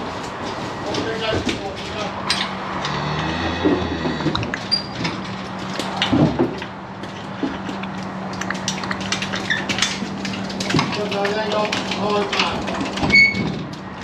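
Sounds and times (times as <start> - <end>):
engine hum: 0.0 - 14.0
metallic clanks and knocks: 0.2 - 13.8.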